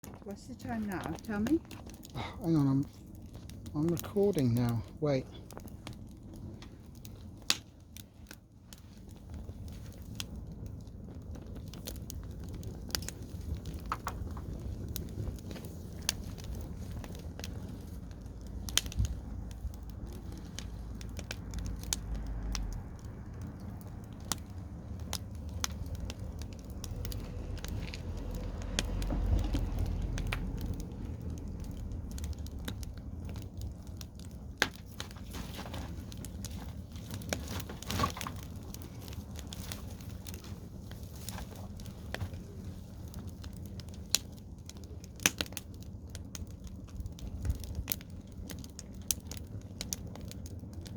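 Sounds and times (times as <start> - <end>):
bonfire crackling: 0.0 - 50.9
low steady rumble: 0.0 - 50.9
sharp pops and snaps: 0.0 - 50.9.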